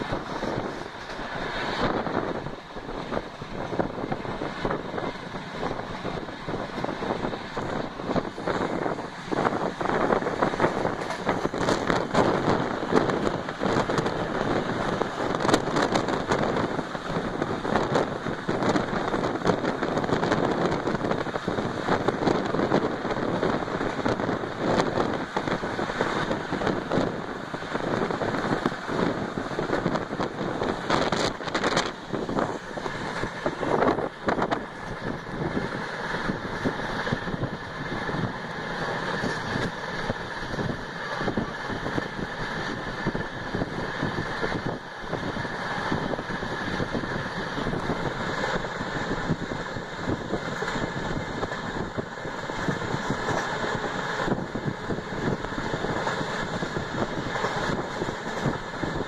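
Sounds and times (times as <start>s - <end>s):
thin steady whine: 0.0s - 59.0s
train wheels clattering on rails: 0.0s - 59.0s
wind on microphone: 0.0s - 59.0s.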